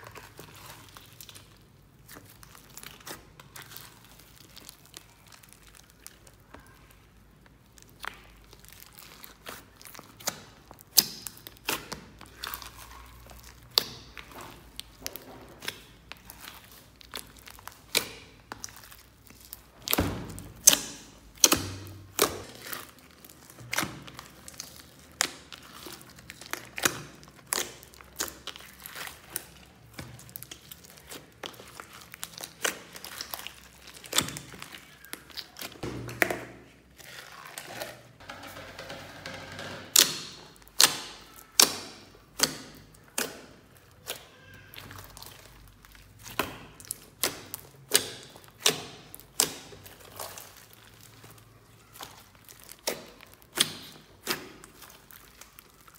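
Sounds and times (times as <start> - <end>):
slime squelching: 0.0 - 55.9.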